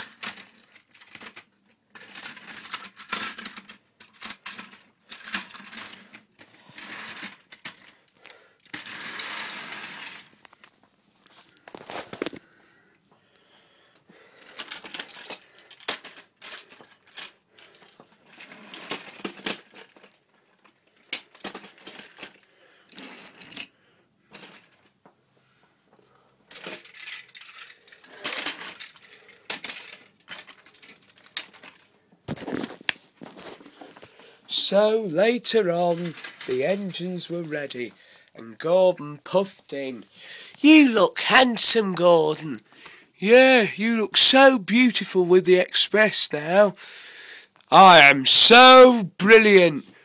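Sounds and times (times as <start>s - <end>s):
plastic toy trains clattering: 0.0s - 12.5s, 14.3s - 25.0s, 26.5s - 46.8s.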